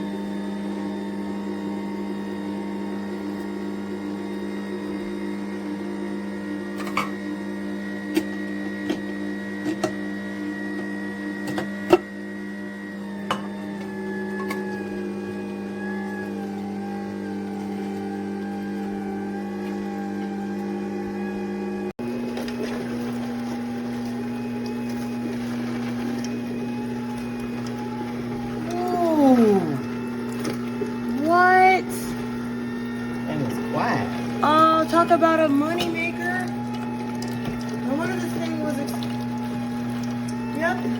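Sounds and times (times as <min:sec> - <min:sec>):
juicer motor humming: 0:00.0 - 0:40.9.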